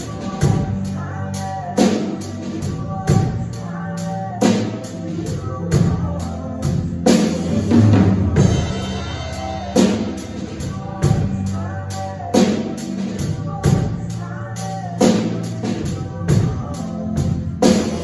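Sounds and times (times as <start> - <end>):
backing music: 0.0 - 18.0
drum kit playing groove: 0.0 - 18.0.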